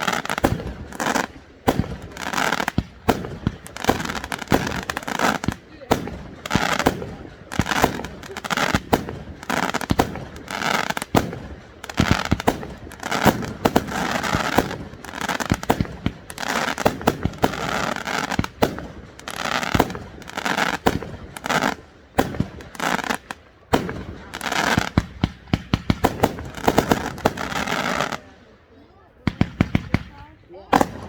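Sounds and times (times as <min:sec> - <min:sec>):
fireworks banging: 0:00.0 - 0:28.4, 0:29.2 - 0:31.0.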